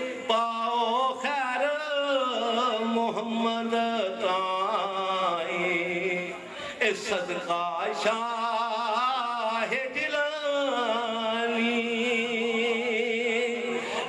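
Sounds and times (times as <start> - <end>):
man chanting into a microphone: 0.0 - 14.0.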